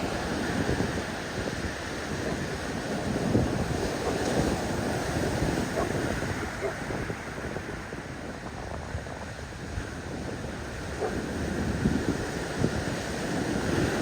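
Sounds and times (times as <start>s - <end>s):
ocean surf washing on beach: 0.0s - 14.0s
wind rumbling on microphone: 0.0s - 14.0s.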